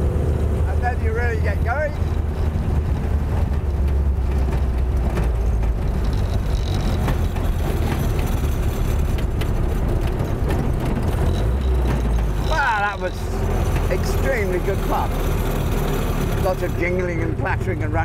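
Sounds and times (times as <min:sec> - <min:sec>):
car engine running under load: 0:00.0 - 0:18.0
car body clattering and rattling: 0:01.2 - 0:17.4.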